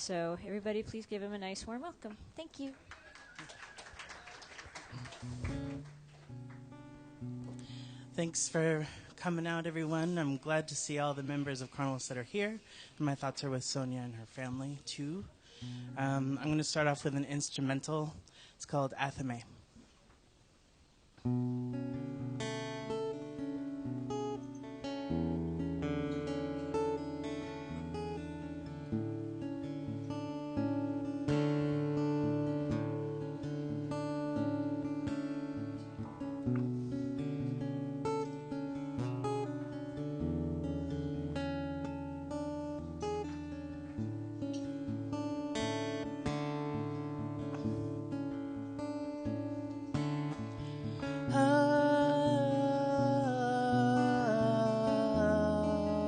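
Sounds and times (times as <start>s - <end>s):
acoustic guitar playing: 4.9s - 18.1s, 21.2s - 56.0s.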